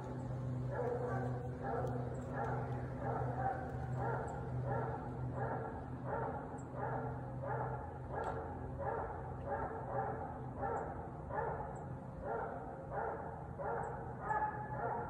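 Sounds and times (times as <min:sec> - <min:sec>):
hound barking: 0:00.7 - 0:15.0.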